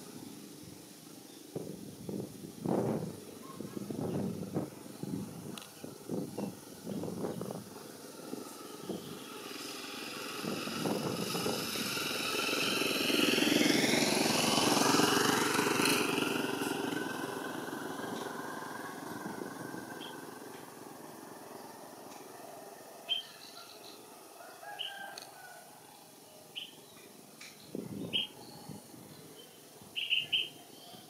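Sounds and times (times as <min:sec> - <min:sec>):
motor vehicle passing by: 0:01.6 - 0:26.7.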